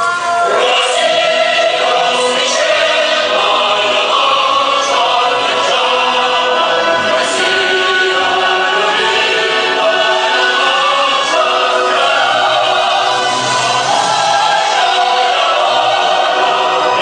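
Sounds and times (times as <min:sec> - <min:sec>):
choir-like singing music: 0:00.0 - 0:17.0.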